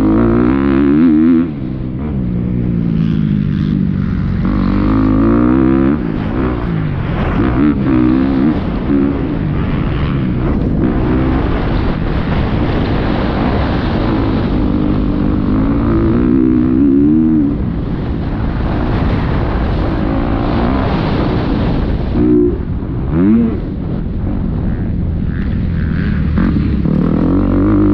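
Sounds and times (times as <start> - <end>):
motocross bike engine revving: 0.0 - 27.9
wind buffeting microphone: 0.0 - 27.9.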